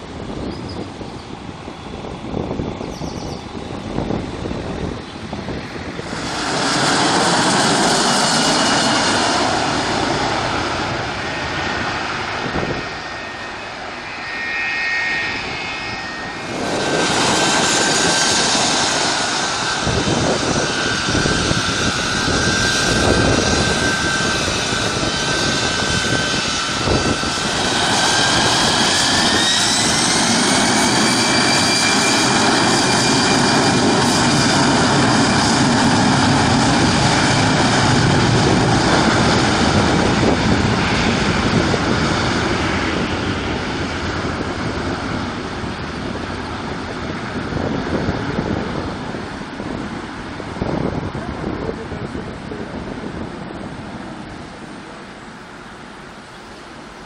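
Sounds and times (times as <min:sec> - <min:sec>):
airplane engines roaring: 0:00.0 - 0:57.0.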